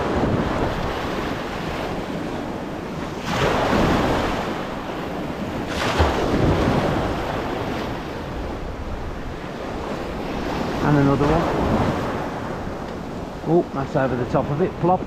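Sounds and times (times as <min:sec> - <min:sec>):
small waves breaking: 0:00.0 - 0:15.0
wind noise on microphone: 0:00.0 - 0:15.0.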